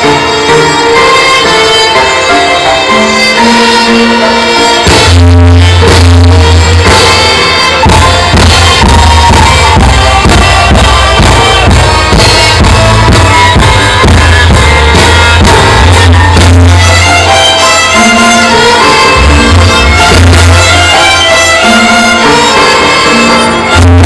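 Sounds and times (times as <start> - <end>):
instrumental music with heavy bass: 0.0 - 24.0.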